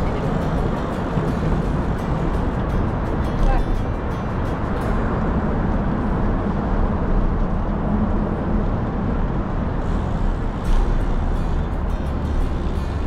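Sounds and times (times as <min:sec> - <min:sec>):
wind rush on microphone: 0:00.0 - 0:13.0.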